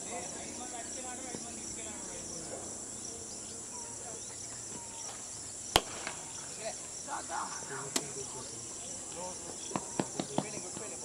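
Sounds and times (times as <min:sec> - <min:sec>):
high-pitched insect drone: 0:00.0 - 0:10.8.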